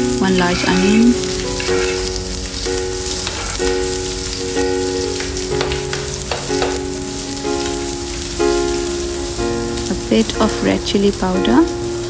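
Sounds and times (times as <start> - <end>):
background music: 0.0 - 12.0
onions sizzling in oil: 0.0 - 12.0.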